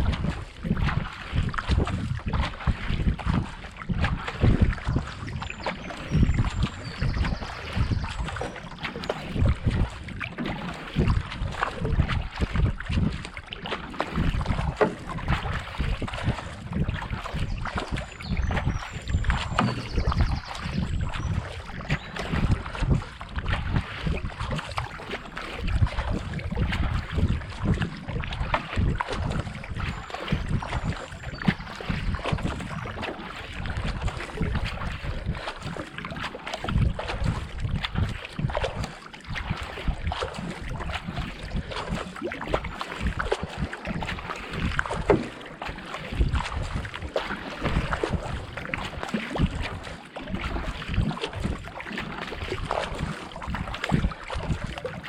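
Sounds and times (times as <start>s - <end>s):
kayak paddle strokes in water: 0.0s - 55.0s
wind buffeting microphone: 0.0s - 55.0s.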